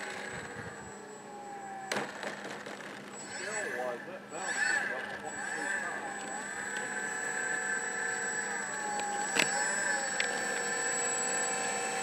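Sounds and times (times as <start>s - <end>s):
model plane motor and propeller: 0.0s - 12.0s.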